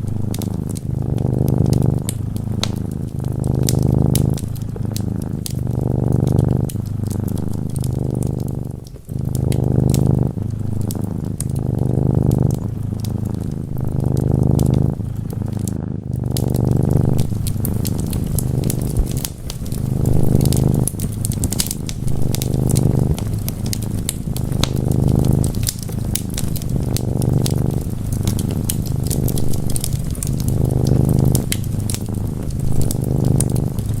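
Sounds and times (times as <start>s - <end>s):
cat purring: 0.0s - 34.0s
wood fire crackling and popping: 0.0s - 34.0s.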